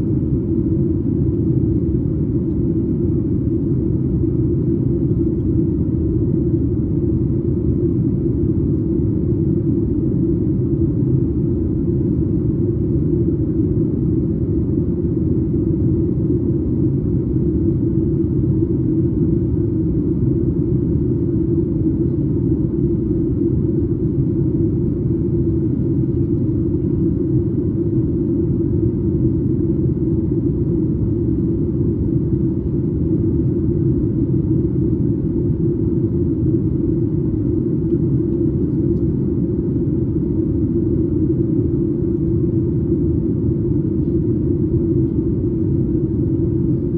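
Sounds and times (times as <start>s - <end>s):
airliner cabin engine drone: 0.0s - 46.9s.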